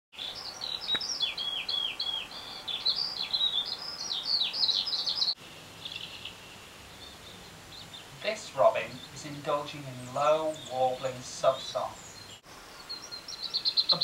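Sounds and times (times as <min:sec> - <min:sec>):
songbird singing on television: 0:00.1 - 0:14.0.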